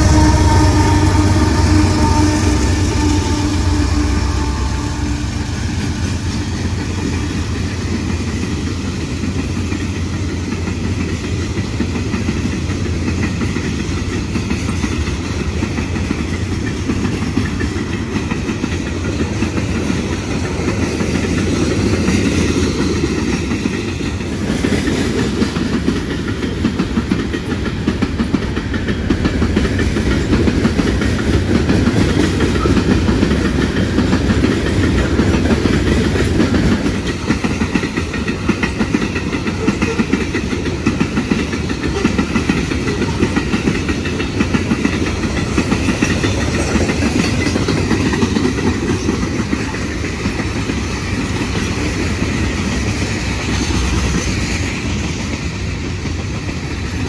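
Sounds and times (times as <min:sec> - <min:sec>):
train wheels rumbling on rail: 0:00.0 - 0:57.0
rhythmic clickety-clack of wheels: 0:05.4 - 0:57.0.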